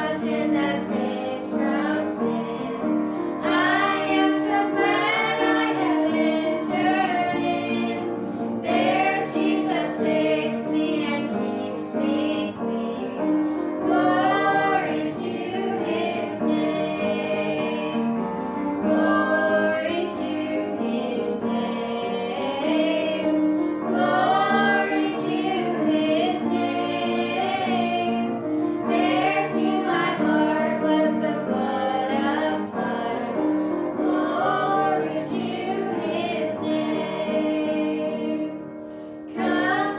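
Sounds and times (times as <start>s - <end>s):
family singing a hymn: 0.0s - 39.9s.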